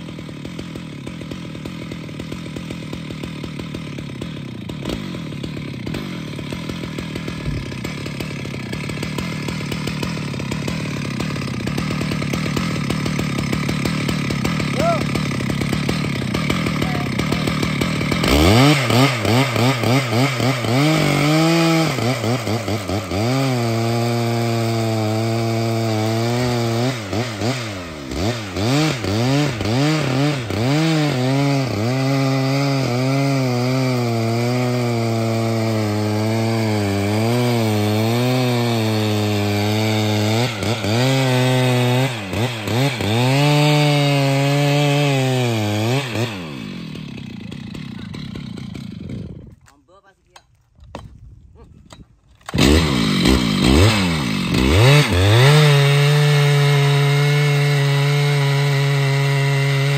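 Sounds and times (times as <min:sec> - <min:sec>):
chainsaw cutting into tree trunk: 0:00.0 - 0:49.8, 0:50.8 - 0:59.9.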